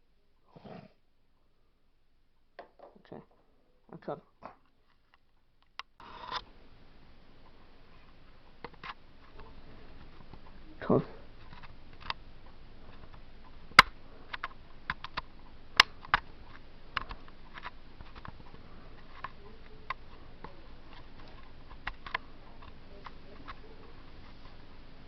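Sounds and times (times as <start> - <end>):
low steady hiss: 0.0 - 25.0.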